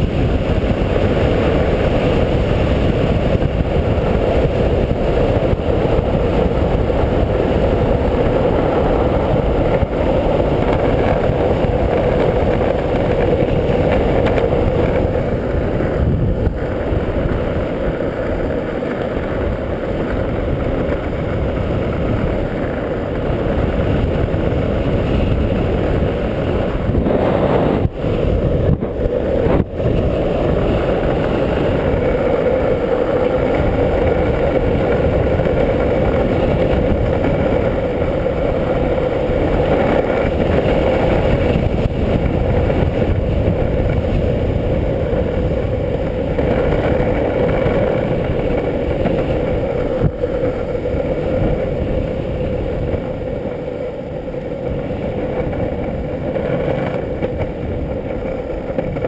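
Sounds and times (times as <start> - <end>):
longboard wheels rolling on asphalt: 0.0 - 59.0
wind rush on microphone: 0.0 - 59.0.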